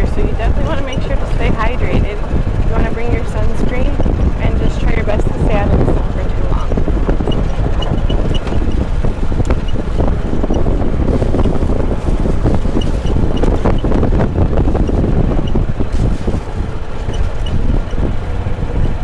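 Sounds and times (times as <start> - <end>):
cart rumbling on dirt track: 0.0 - 19.0
wind on microphone: 0.0 - 19.0.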